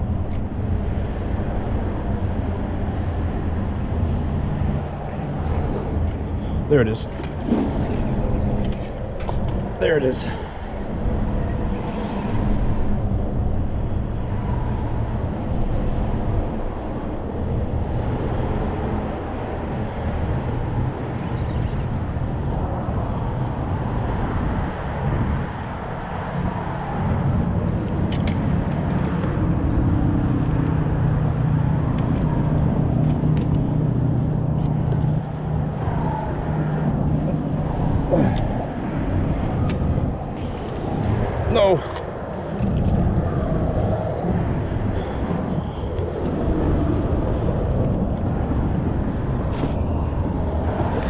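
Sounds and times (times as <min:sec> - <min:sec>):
road traffic rumble: 0:00.0 - 0:51.0
vehicle droning: 0:00.0 - 0:51.0.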